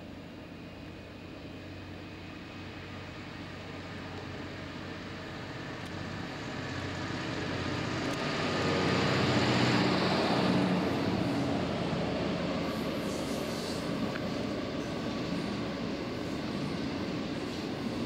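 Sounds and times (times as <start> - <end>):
diesel locomotive engine passing: 0.0 - 18.0.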